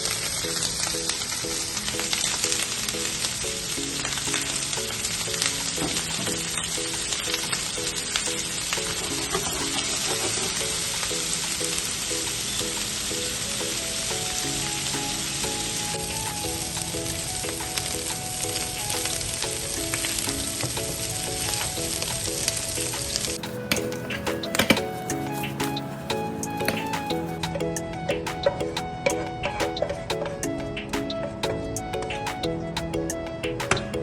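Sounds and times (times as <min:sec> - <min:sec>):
simple background music: 0:00.0 - 0:34.0.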